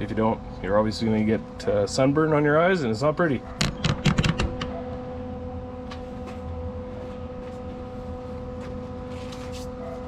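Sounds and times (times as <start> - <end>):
machine hum: 0.0 - 9.8.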